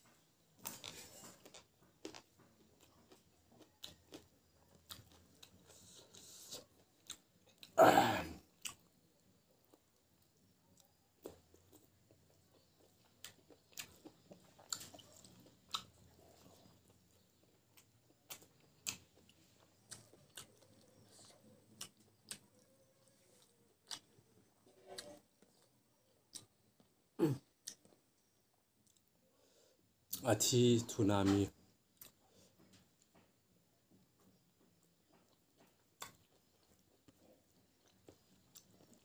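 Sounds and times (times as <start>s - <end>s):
close chewing: 0.1s - 7.8s, 8.4s - 29.2s, 31.9s - 39.0s.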